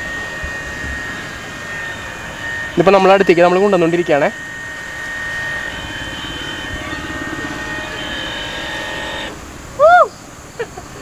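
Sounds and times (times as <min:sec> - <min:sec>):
short call rising and falling: 0:00.0 - 0:10.1
small motors whining: 0:00.0 - 0:10.5.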